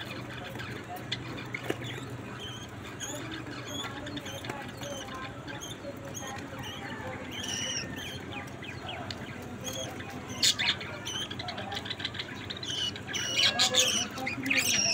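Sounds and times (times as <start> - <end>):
budgerigars chattering: 0.0 - 14.9
loud bird chirp: 0.0 - 14.9.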